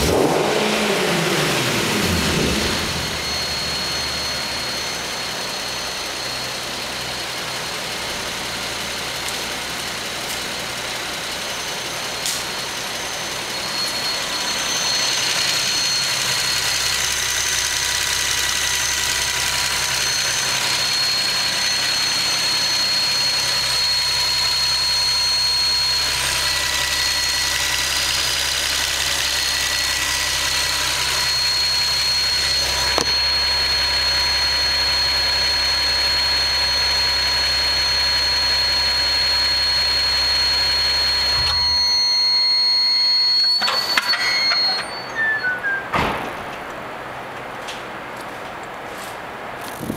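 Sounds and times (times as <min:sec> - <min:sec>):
car engine idling: 0:00.0 - 0:45.8
high-pitched whine: 0:00.0 - 0:48.3.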